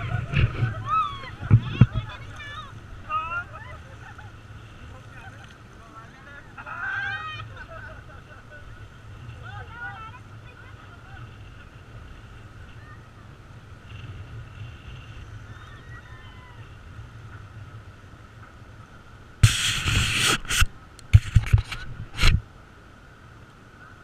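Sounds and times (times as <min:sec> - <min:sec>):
wind: 0:00.0 - 0:24.0.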